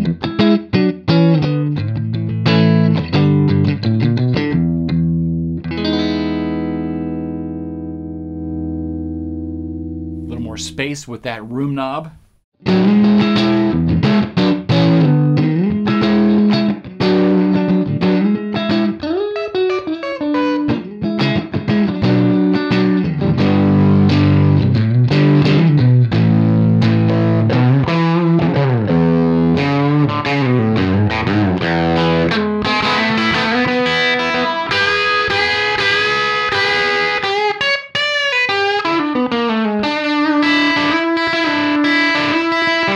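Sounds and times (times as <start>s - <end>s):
electric guitar chords and riffs: 0.0s - 10.3s, 12.6s - 42.9s.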